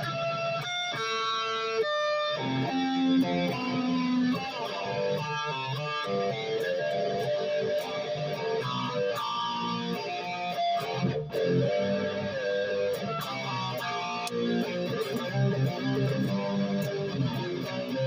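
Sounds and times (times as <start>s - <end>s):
electric guitar melody: 0.0s - 18.0s.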